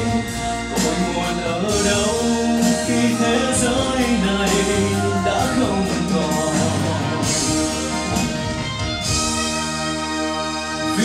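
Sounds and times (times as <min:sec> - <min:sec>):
orchestral music: 0:00.0 - 0:11.0.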